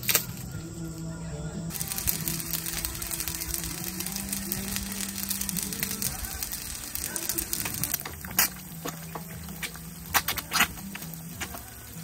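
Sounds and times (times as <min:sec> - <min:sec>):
rice sizzling on griddle: 0:01.0 - 0:12.0.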